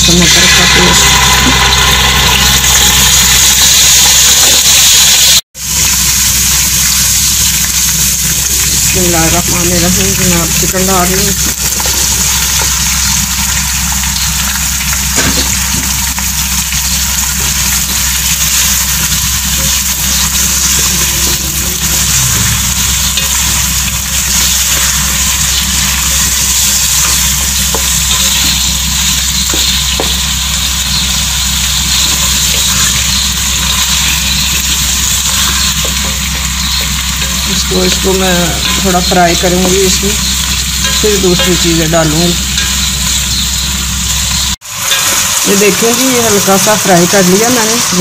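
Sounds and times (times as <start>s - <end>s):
chicken sizzling in hot oil: 0.0s - 48.0s.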